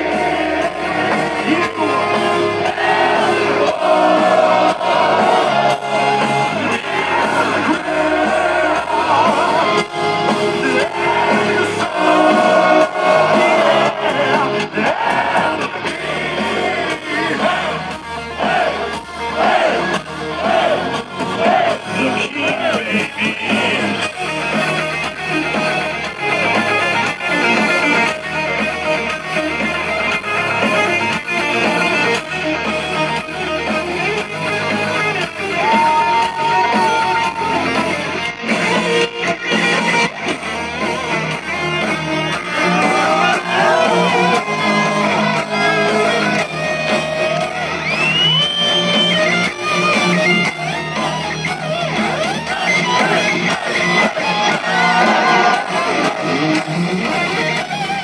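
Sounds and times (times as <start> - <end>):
bass: 0.0 - 58.0
distorted electric lead guitar solo: 0.0 - 58.0
drums: 0.0 - 58.0
rhythm guitar: 0.0 - 58.0.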